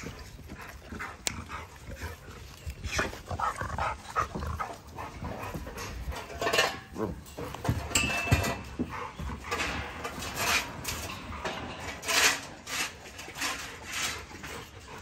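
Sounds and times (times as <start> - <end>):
dogs scuffling in kennels: 0.0 - 15.0.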